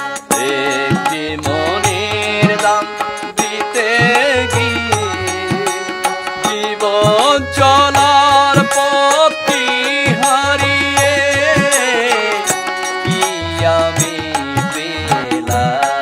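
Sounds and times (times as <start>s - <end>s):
harmonium: 0.0s - 16.0s
man singing: 0.0s - 16.0s.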